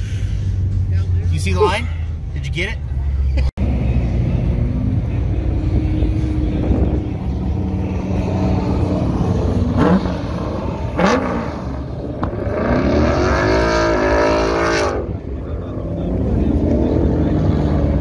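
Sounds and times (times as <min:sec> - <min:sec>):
car engine running and revving: 0:00.0 - 0:18.0.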